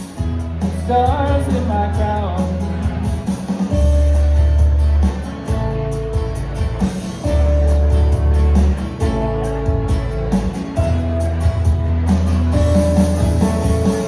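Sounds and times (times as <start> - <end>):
bass notes: 0.0 - 14.0
drums on cymbals: 0.0 - 14.0
guitar: 0.0 - 14.0.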